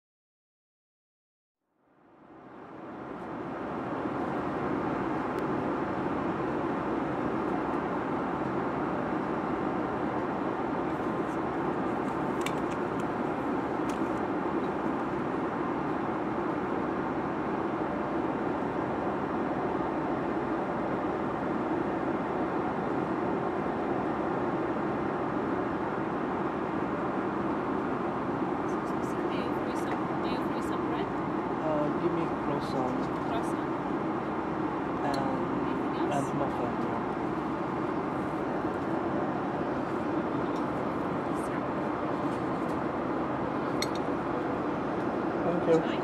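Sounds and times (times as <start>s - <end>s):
airliner cabin airflow and engines: 1.7s - 46.0s.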